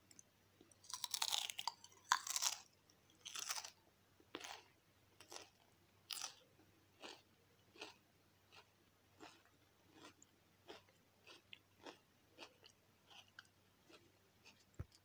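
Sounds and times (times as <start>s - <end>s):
open-mouthed chewing crunches: 0.8s - 6.4s, 7.0s - 15.0s
potato chips crunching: 0.8s - 6.4s, 7.0s - 14.9s.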